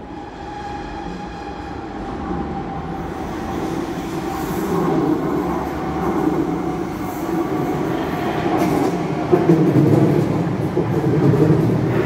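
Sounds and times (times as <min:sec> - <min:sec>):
train wheel rumble: 0:00.0 - 0:12.0.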